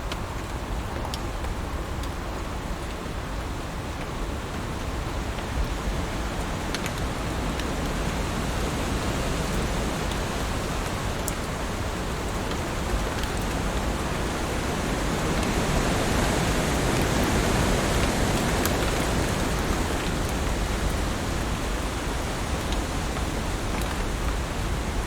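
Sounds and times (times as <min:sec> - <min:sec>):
heavy rain: 0:00.0 - 0:25.0
rain drop ticks: 0:00.1 - 0:24.7.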